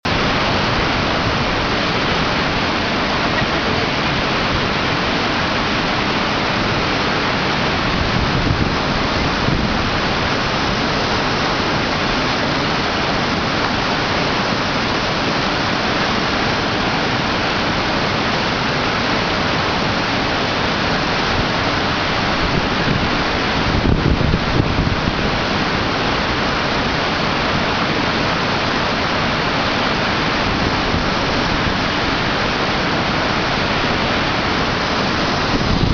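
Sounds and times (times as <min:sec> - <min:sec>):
waterfall rushing on rock: 0:00.0 - 0:35.9.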